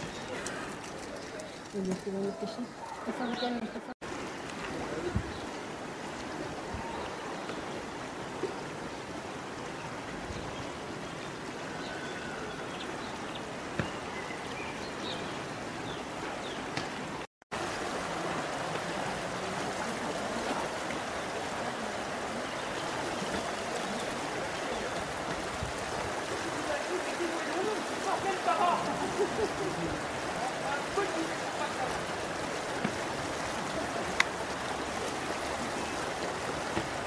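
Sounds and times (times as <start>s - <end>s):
river water over rapids: 0.0s - 37.0s.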